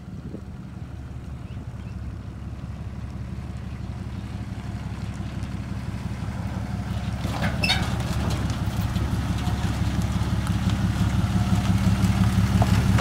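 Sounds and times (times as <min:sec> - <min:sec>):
truck engine running at low speed: 0:00.0 - 0:13.0.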